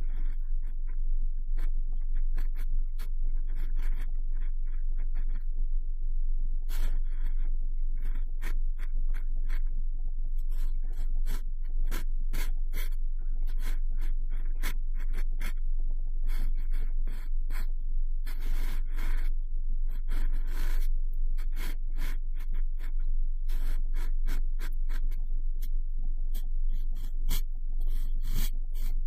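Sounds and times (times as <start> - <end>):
cotton swab rubbing microphone: 0.0 - 5.6, 6.6 - 29.0
low rumble: 0.0 - 29.0.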